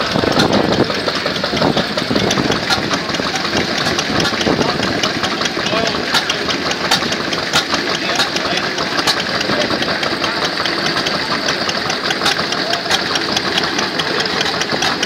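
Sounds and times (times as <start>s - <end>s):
rapid regular clicking: 0.0s - 15.0s
stationary engine running: 0.0s - 15.0s.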